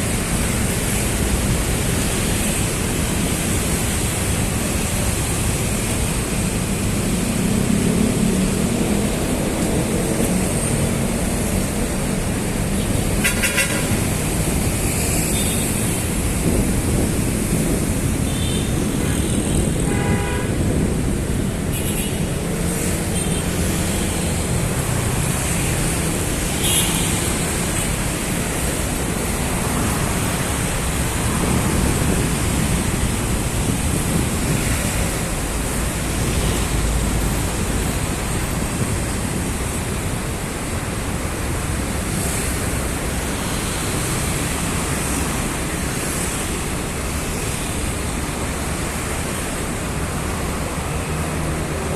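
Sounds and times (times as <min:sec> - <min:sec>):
heavy road traffic: 0:00.0 - 0:51.9.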